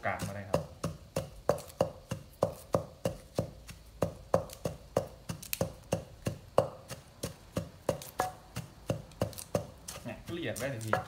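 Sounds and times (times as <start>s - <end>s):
pestle pounding in mortar: 0.0s - 11.0s.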